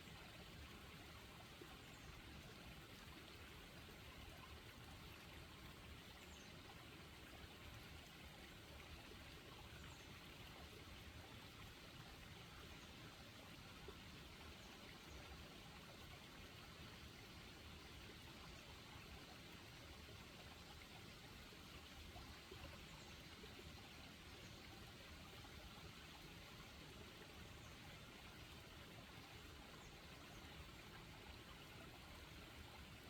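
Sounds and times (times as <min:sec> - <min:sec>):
flowing river: 0:00.0 - 0:33.0.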